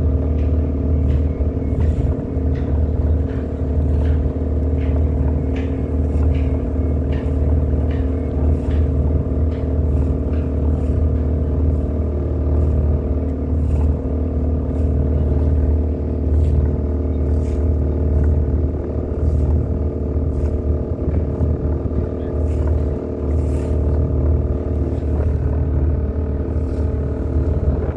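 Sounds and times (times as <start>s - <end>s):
boat engine droning: 0.0s - 27.9s.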